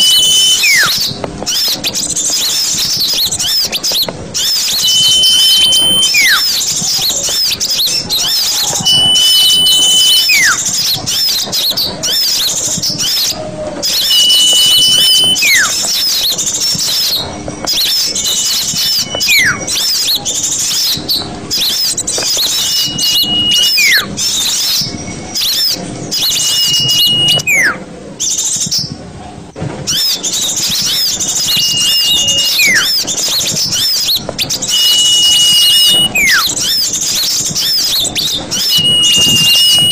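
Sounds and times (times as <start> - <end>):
sliding whistle call: 0.0 - 27.8, 29.9 - 39.9
small birds twittering: 0.0 - 29.0, 29.9 - 39.9.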